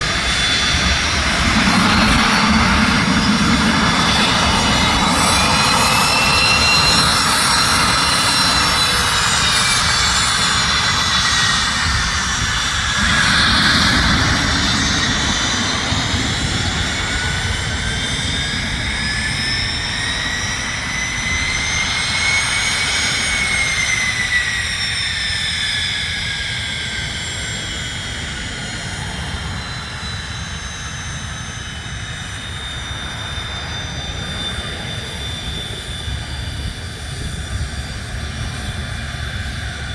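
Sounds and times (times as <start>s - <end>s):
jet engines whining: 0.0s - 39.9s
steady engine rumble: 0.0s - 39.9s.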